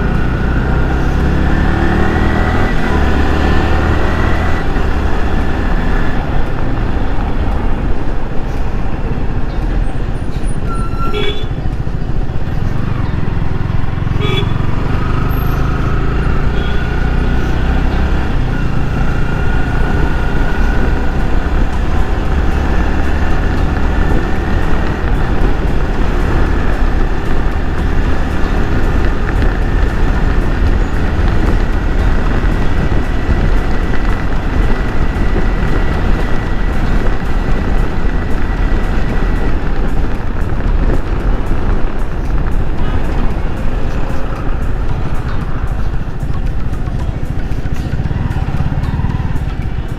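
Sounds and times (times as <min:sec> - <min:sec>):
wind rush on microphone: 0:00.0 - 0:16.7, 0:17.5 - 0:49.9
motorcycle engine running: 0:00.0 - 0:49.9.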